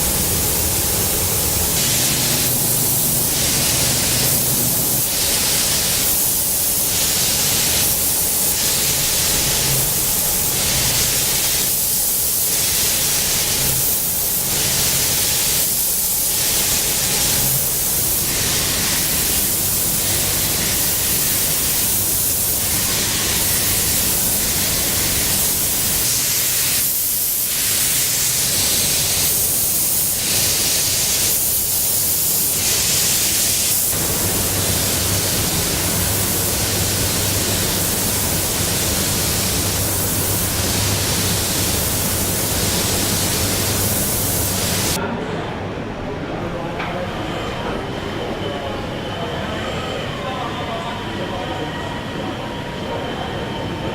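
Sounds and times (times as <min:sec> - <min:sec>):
loud broad noise hiss: 0:00.0 - 0:45.0.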